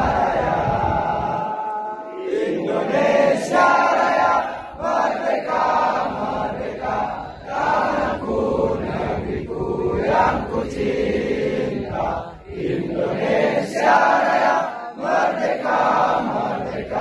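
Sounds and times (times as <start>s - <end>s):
crowd singing in unison: 0.0s - 17.0s.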